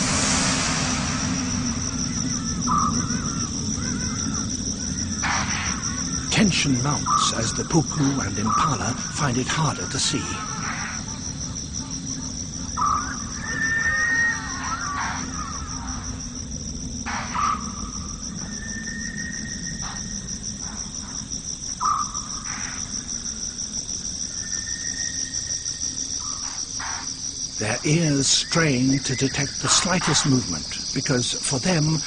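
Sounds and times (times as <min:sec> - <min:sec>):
night insects chirping: 0:00.0 - 0:32.0.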